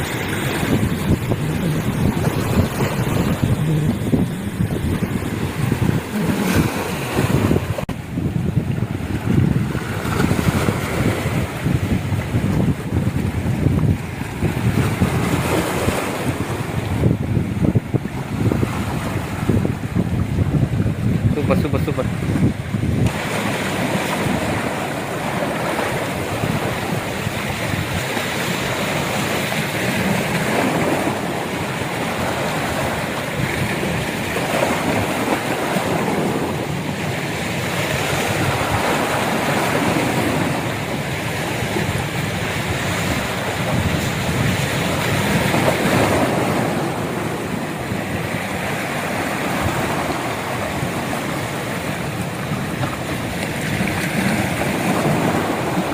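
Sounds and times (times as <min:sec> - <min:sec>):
sea waves breaking on rocks: 0:00.0 - 0:55.9.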